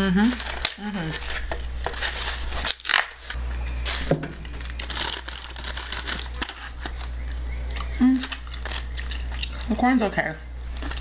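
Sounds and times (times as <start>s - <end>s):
paper crinkling and rustling: 0.0s - 9.6s
steady low hum: 0.0s - 11.0s.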